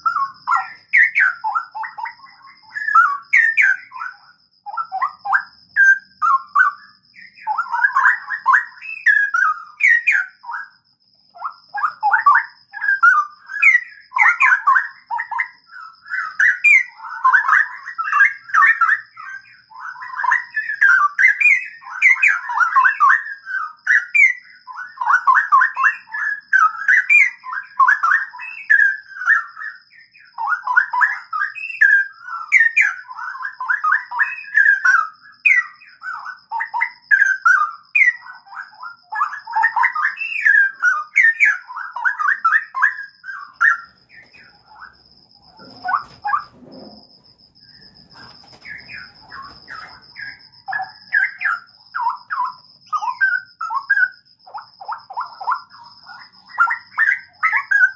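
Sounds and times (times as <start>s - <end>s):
bulbul singing warbled phrases: 0.0s - 10.8s, 11.4s - 47.0s, 47.6s - 57.9s.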